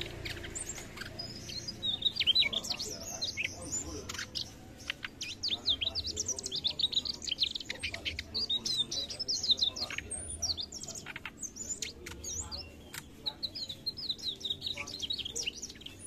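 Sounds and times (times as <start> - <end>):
bird singing high chirps: 0.0 - 16.0.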